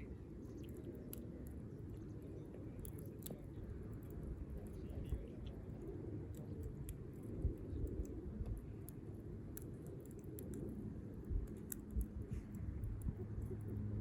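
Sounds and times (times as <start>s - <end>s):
wood fire crackling in a stove: 0.0s - 14.0s.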